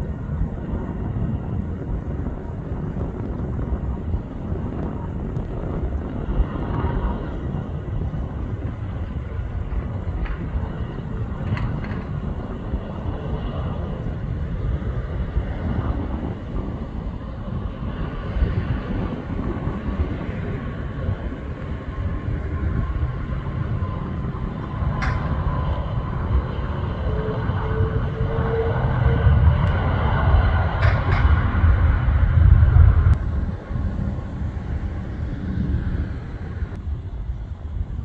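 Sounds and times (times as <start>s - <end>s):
distant jet rumble: 0.0s - 38.0s.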